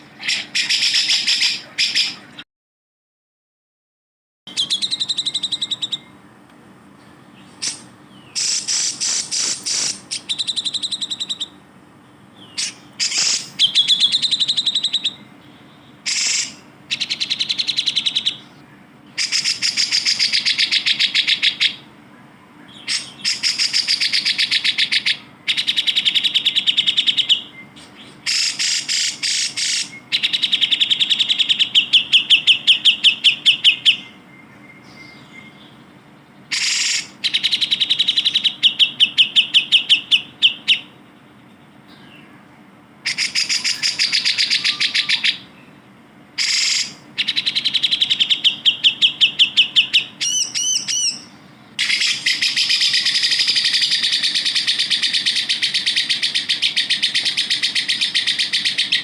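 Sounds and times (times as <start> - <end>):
bird chattering song: 0.0 - 2.4, 4.5 - 59.0.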